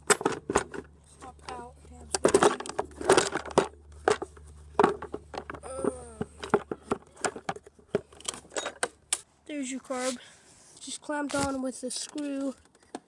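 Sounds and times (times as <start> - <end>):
plastic and rubber parts clattering: 0.0 - 9.2, 11.2 - 13.0.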